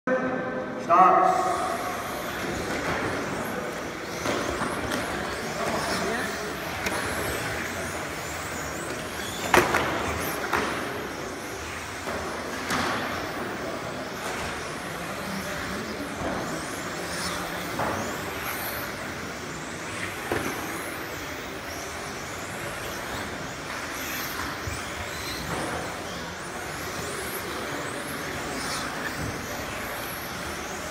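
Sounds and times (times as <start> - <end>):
rc car motors whining: 1.2 - 30.9.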